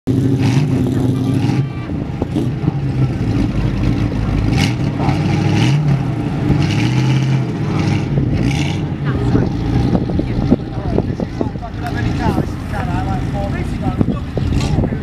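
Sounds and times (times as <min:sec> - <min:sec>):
car engines running: 0:00.1 - 0:15.0.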